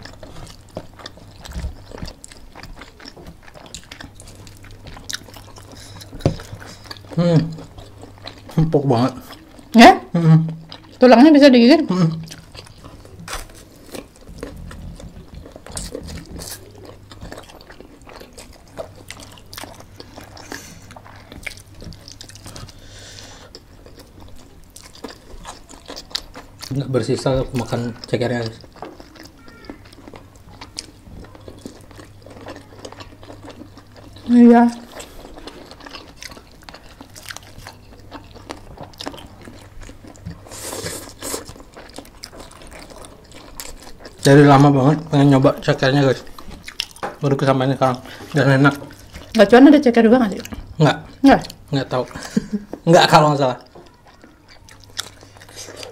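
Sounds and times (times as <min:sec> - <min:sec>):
noodles chewed with wet smacking: 0:00.0 - 0:09.8, 0:12.1 - 0:55.9.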